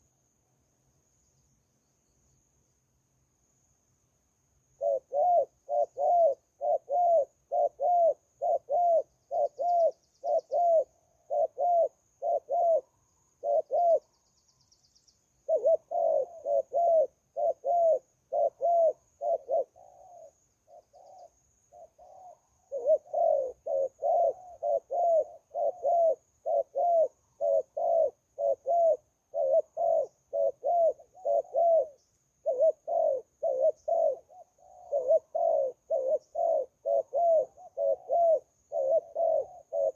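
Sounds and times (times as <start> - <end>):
dove cooing: 4.8 - 14.3, 15.4 - 39.9.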